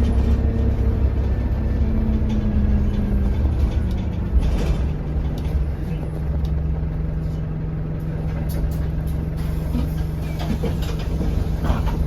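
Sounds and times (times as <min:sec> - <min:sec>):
interior rattles and clicks: 0:00.0 - 0:07.2, 0:08.0 - 0:12.0
bus diesel engine humming: 0:00.0 - 0:12.0.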